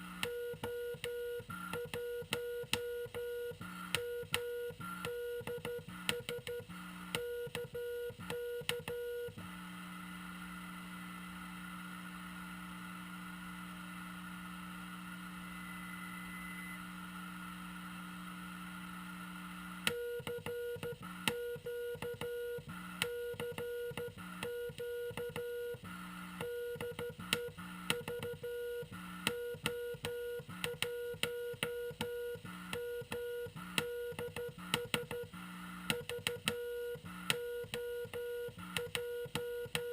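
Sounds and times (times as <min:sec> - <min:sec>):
low hum and receiver hiss: 0:00.0 - 0:39.9.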